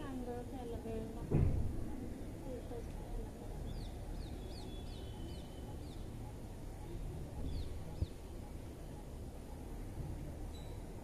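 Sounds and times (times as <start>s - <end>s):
bird chirps: 1.9s - 11.0s.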